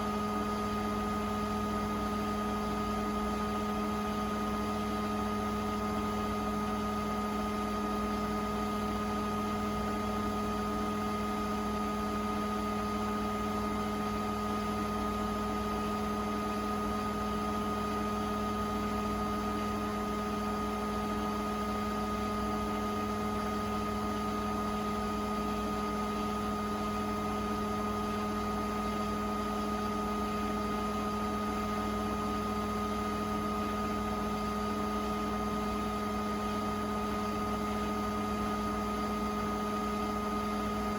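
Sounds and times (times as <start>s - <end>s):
washing machine running: 0.0s - 40.9s.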